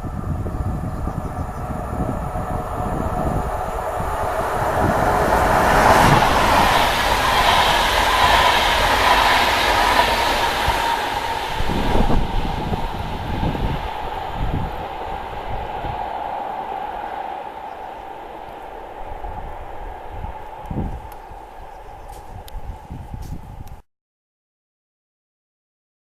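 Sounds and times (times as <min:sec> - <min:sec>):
passenger train wheel rumble: 0:00.0 - 0:23.8.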